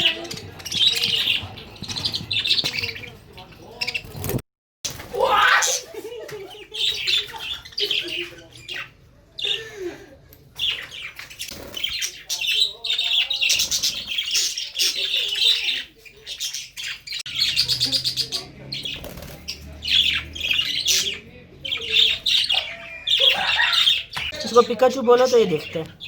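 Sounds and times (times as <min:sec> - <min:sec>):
pet birds chirping and squawking: 0:00.0 - 0:09.8, 0:10.4 - 0:26.0.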